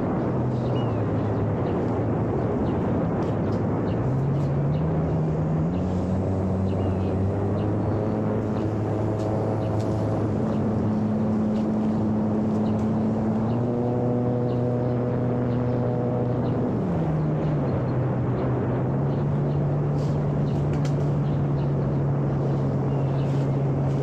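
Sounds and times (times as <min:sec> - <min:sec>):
electric motor and propeller hum: 0:00.0 - 0:24.0
wind noise: 0:00.0 - 0:24.0.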